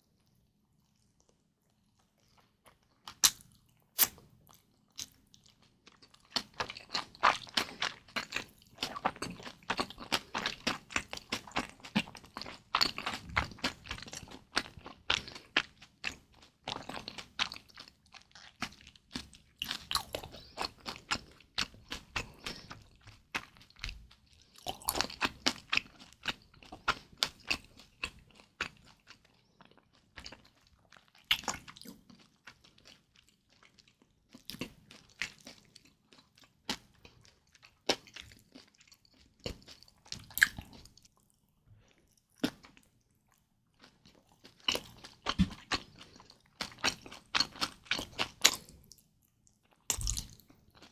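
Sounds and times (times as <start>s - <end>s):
wet chewing with crisp crackles: 0.0s - 50.9s.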